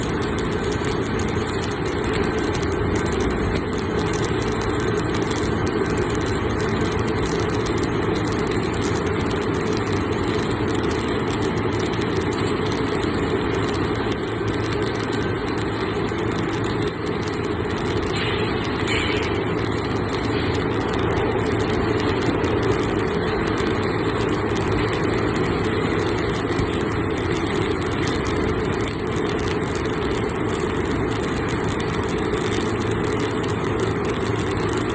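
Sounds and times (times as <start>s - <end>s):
electric arc welding: 0.0s - 34.9s
machinery engine noise: 0.0s - 34.9s.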